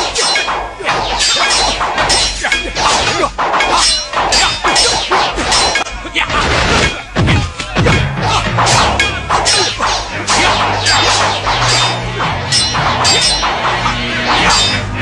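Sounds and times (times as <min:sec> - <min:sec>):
fight whacks and blows: 0:00.0 - 0:05.8, 0:06.4 - 0:14.8.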